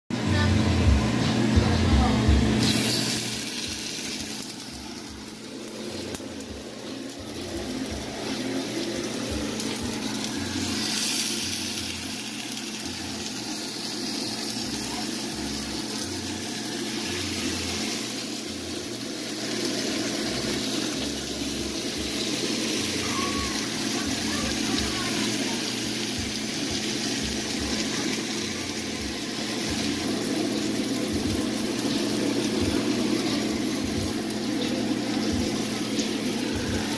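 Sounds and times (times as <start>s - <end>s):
fish sizzling in hot oil: 2.6s - 36.9s.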